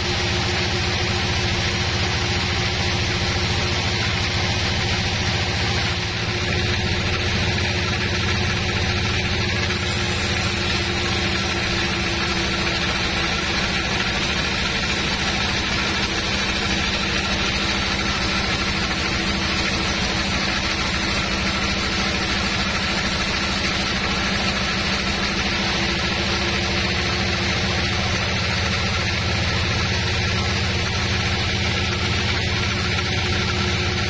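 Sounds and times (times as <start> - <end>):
band saw machine hum: 0.0 - 34.0
saw blade hiss cutting log: 0.0 - 34.0.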